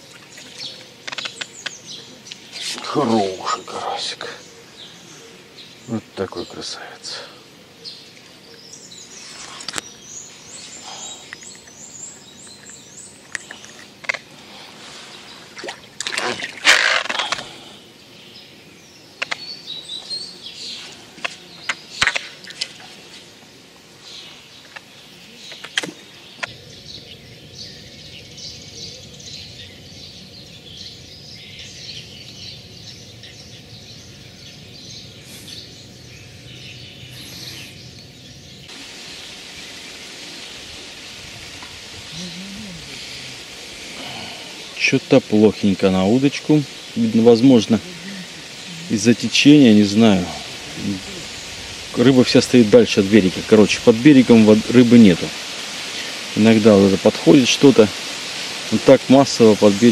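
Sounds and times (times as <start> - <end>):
small birds chirping and singing: 0.0 - 15.7, 16.3 - 59.9
steady hiss: 0.0 - 59.9.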